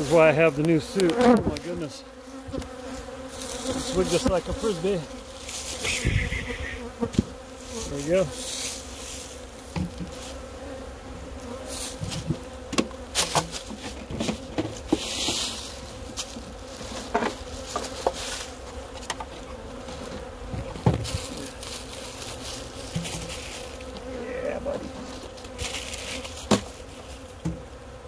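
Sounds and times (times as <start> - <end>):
hive parts knocking and rustling: 0.0 - 5.9, 9.7 - 10.4, 11.7 - 27.7
bees buzzing: 0.0 - 28.0.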